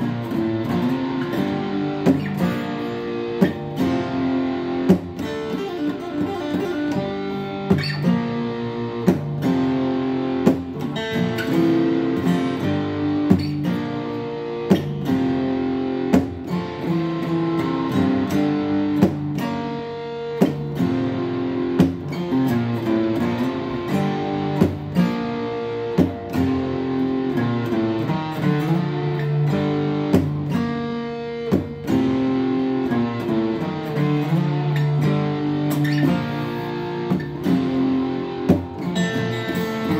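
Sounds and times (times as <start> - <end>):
acoustic guitar chords: 0.0 - 39.9.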